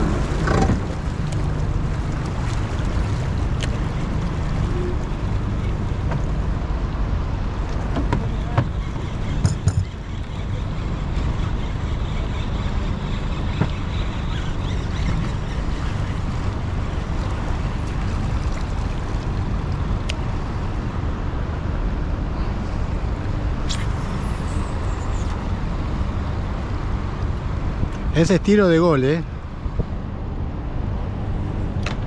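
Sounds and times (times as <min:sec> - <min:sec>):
boat motor rumbling: 0:00.0 - 0:32.0.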